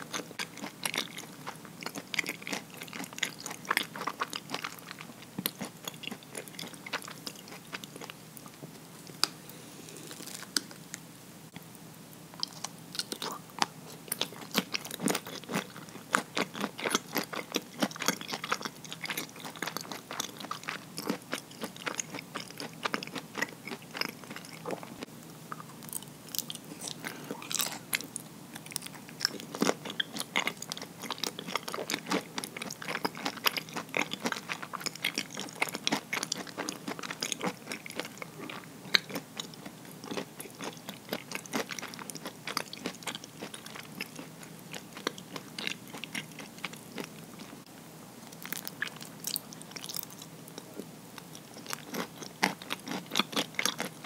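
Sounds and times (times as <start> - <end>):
mouth chewing sticky rice cake: 0.0 - 10.8, 12.4 - 54.0.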